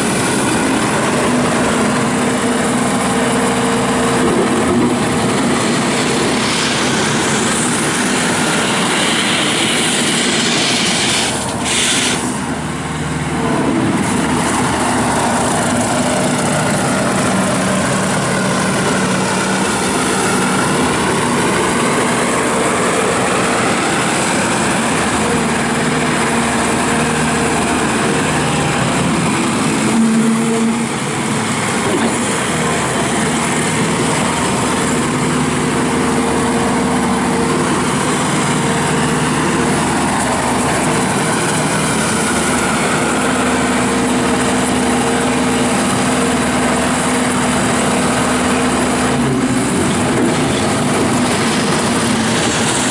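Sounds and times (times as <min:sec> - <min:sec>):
diesel engine drone with hydraulics: 0:00.0 - 0:52.9.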